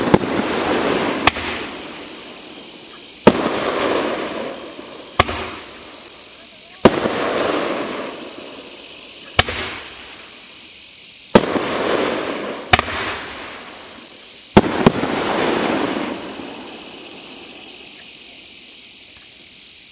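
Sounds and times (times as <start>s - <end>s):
firework bangs: 0.0s - 10.5s, 11.3s - 18.0s
firework hissing: 0.0s - 19.9s.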